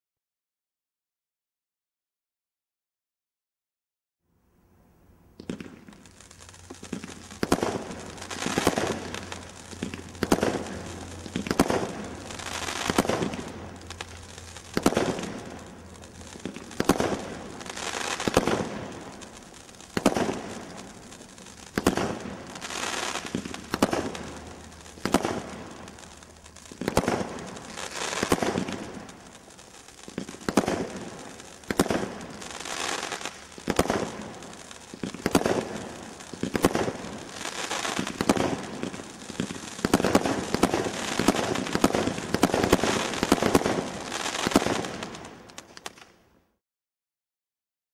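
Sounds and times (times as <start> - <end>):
stars bursting and crackling: 5.4 - 46.2.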